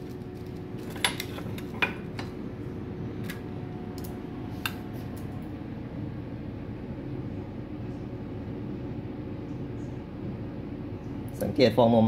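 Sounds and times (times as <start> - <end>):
low hum of cafe equipment: 0.0 - 12.0.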